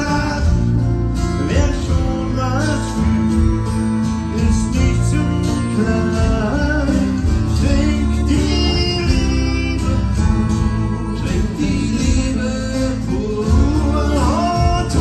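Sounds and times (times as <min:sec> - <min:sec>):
electric bass line: 0:00.0 - 0:15.0
strummed acoustic guitars: 0:00.0 - 0:15.0.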